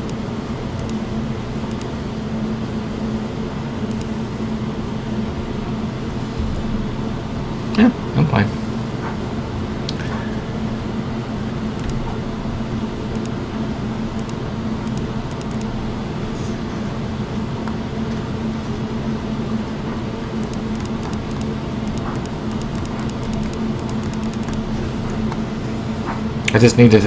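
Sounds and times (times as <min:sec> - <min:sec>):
machine hum and hiss: 0:00.0 - 0:27.0.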